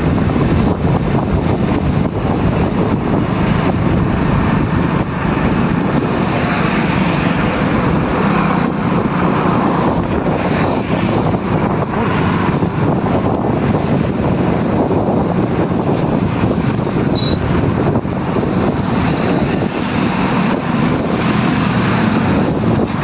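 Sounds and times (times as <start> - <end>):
vehicle engine and road noise: 0.0 - 23.0
wind on microphone: 0.0 - 23.0.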